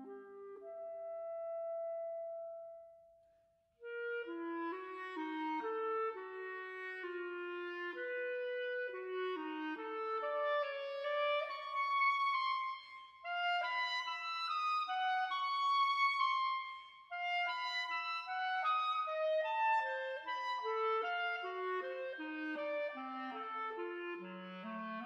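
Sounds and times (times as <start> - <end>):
woodwind melody: 0.0 - 3.1, 3.8 - 25.0.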